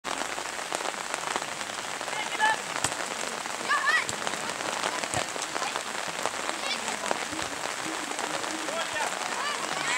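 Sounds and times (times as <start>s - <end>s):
rain pattering: 0.0s - 9.9s.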